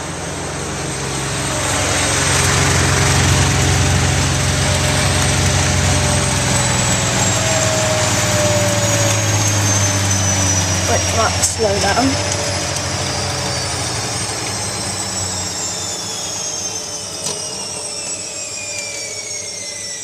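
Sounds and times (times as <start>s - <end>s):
high whine falling in pitch: 0.0s - 20.0s
washing machine spinning: 0.0s - 20.0s.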